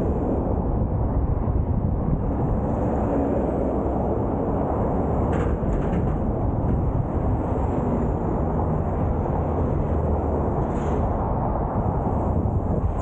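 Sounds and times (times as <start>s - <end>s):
highway traffic noise: 0.0s - 13.0s
wind buffeting microphone: 0.0s - 13.0s.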